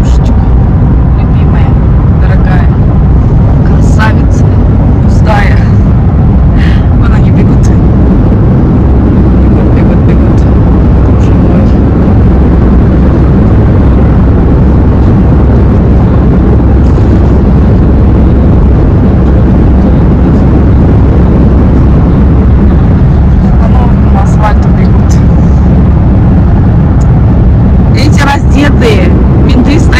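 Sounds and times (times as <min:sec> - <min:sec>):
car cabin road and engine noise: 0:00.0 - 0:29.9.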